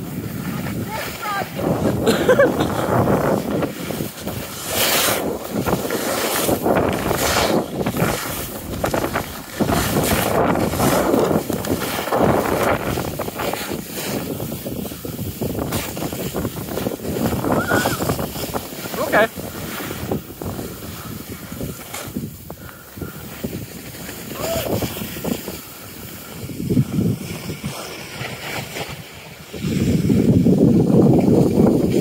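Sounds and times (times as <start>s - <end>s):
skis scraping on packed snow: 0.0s - 32.0s
wind on microphone: 0.0s - 32.0s.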